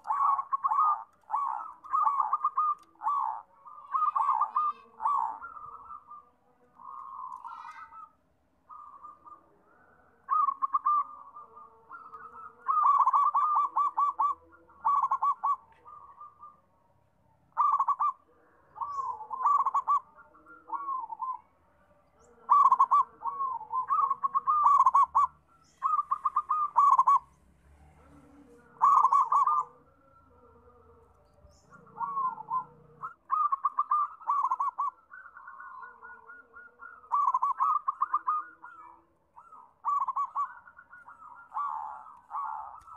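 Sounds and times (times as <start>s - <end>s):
dove cooing: 0.0s - 42.9s.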